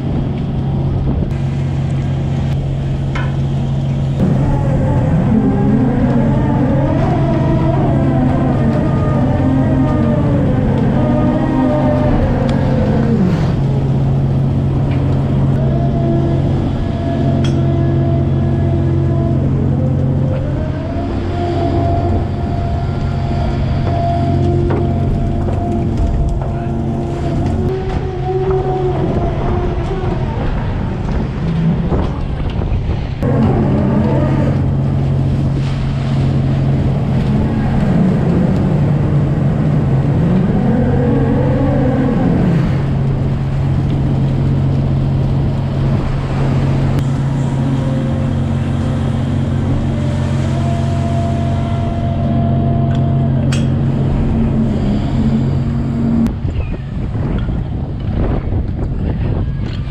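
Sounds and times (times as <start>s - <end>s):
deck machinery humming: 0.0s - 59.9s
water noise: 0.0s - 59.9s
wind: 0.0s - 59.9s
machine whine: 1.3s - 56.6s.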